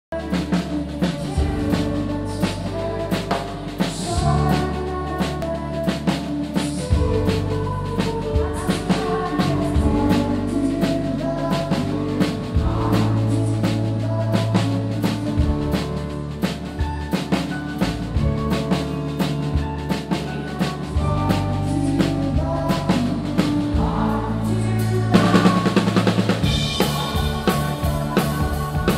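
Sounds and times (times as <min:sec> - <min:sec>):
band playing live: 0:00.1 - 0:28.9
drum kit beat: 0:00.1 - 0:28.9.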